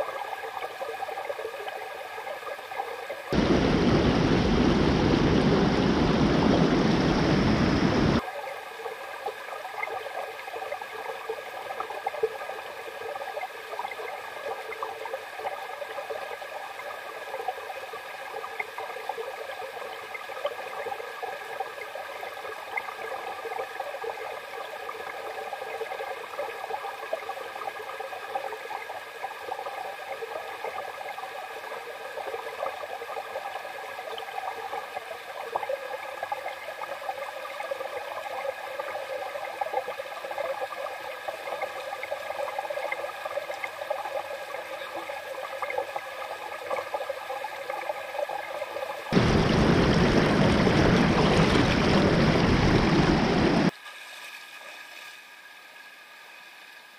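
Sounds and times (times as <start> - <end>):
creek water flowing: 0.0 - 56.0.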